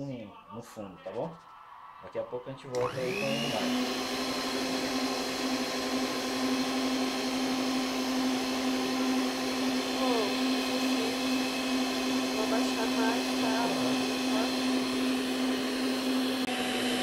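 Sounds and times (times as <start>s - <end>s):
electric mixer whipping eggs: 2.7s - 17.0s.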